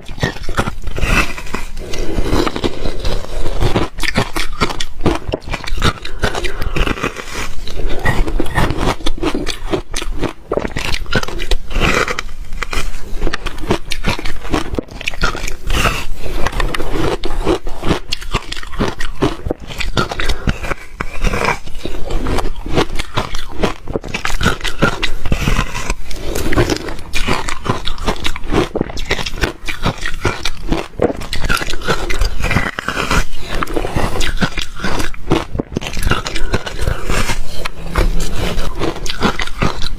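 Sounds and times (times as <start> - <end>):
person chewing ice crunching: 0.0 - 39.9.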